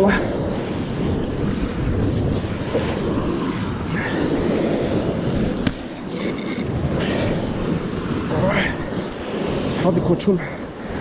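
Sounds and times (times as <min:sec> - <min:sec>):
waves breaking on rocks: 0:00.0 - 0:11.0
wind buffeting microphone: 0:00.0 - 0:11.0.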